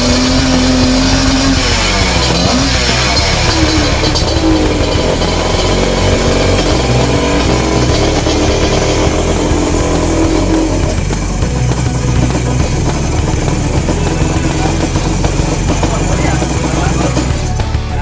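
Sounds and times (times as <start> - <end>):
background music: 0.0 - 18.0
two-stroke motorcycle engine running: 0.0 - 18.0.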